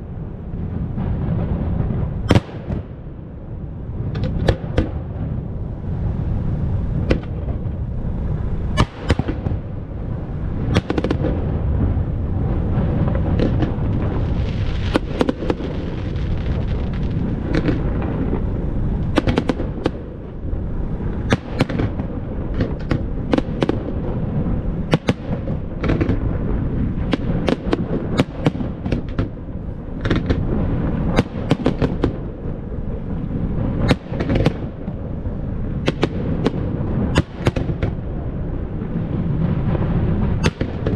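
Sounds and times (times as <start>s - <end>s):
fireworks bangs and cracks: 0.0s - 40.9s
low rumble: 0.0s - 40.9s.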